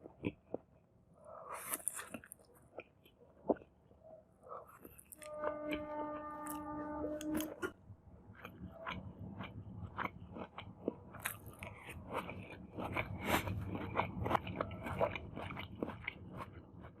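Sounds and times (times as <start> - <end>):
crunchy chewing and biting: 0.0 - 3.8, 4.4 - 17.0.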